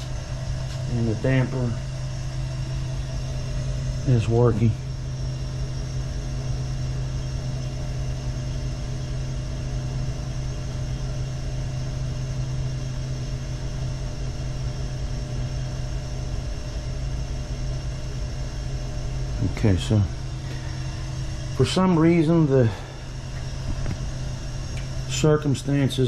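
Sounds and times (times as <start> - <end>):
water heater humming: 0.0 - 26.0.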